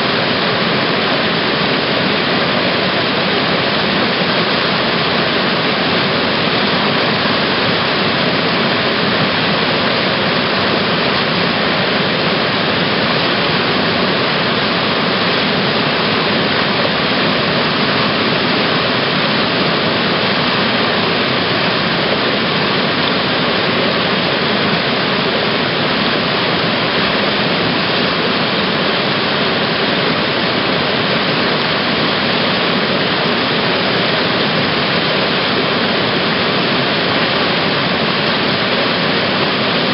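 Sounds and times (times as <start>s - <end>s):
whitewater rushing and churning: 0.0s - 39.9s.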